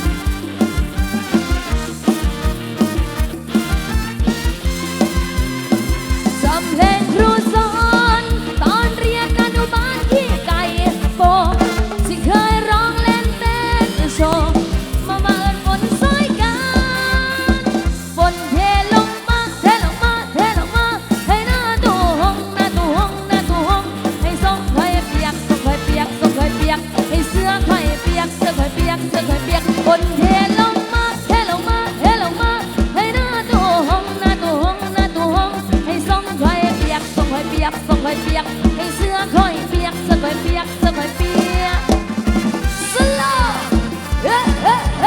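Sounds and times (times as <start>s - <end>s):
bending lead melody: 0.0s - 45.0s.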